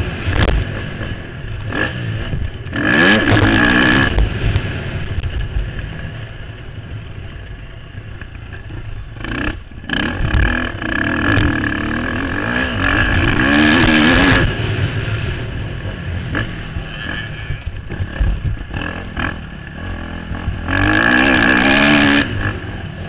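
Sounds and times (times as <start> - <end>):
motocross bike engine revving: 0.0 - 6.8, 8.2 - 23.0.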